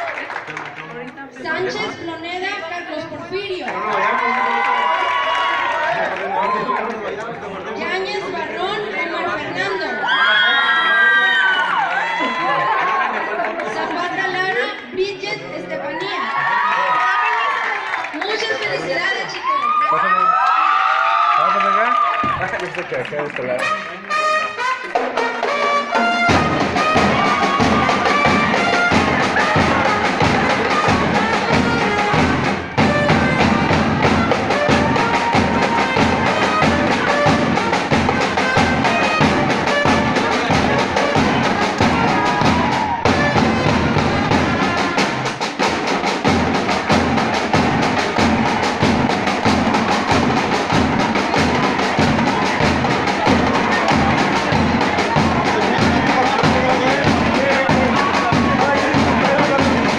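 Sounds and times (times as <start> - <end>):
live brass band and drums: 0.0 - 59.9.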